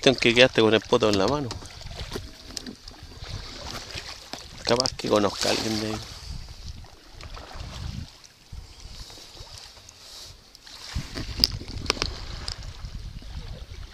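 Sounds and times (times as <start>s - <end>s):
paddle water splashes: 0.0s - 13.9s
wind on microphone: 1.4s - 13.9s.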